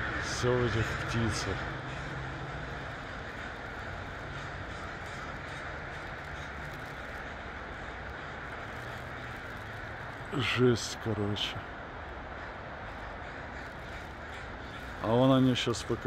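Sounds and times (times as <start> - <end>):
crows cawing: 0.0 - 16.0.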